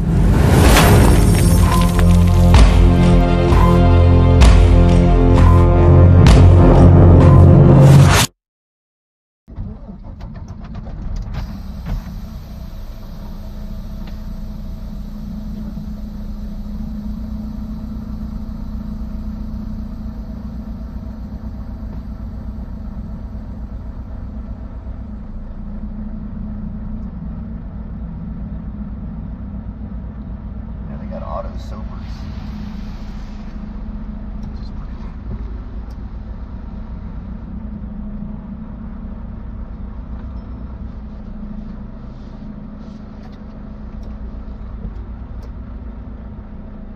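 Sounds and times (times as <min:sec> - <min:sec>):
vehicle engine rumbling: 0:00.0 - 0:08.3, 0:09.5 - 0:46.9.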